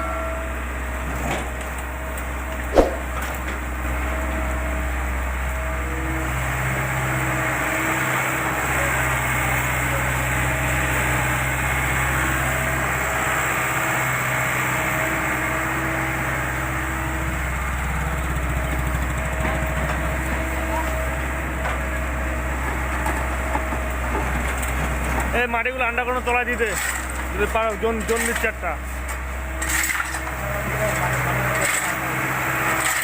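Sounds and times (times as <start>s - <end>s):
diesel engine running: 0.5s - 33.0s.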